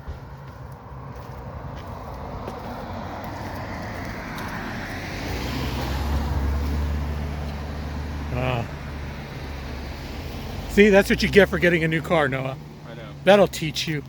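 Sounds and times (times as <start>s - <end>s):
car driving past: 0.0s - 13.7s.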